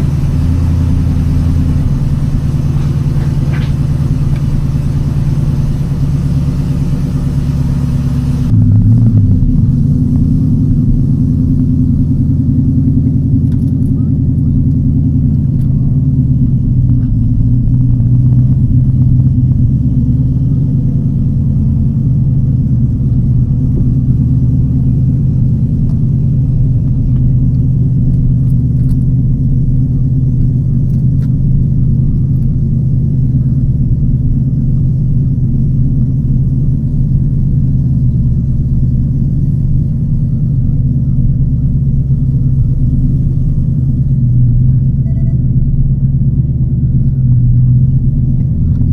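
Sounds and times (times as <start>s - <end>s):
car engine drone from cabin: 0.0s - 48.9s.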